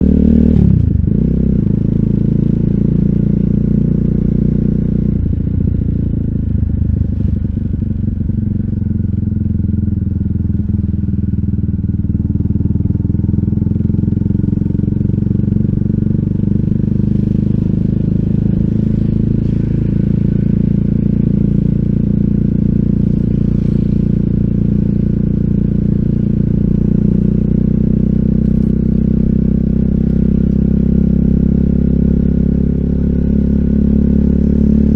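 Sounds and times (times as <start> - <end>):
motorcycle engine exhaust: 0.0 - 34.9.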